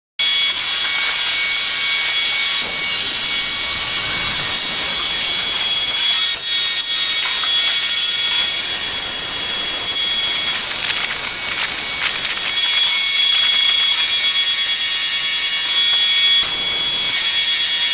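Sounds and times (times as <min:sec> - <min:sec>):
high hydraulic whining tones: 0:00.2 - 0:17.9
loud hydraulic hiss: 0:00.4 - 0:17.9.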